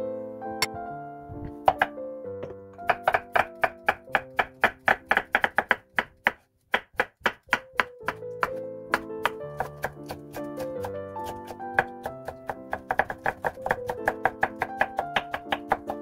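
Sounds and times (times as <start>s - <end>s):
knife chopping on wooden board: 1.5s - 16.0s.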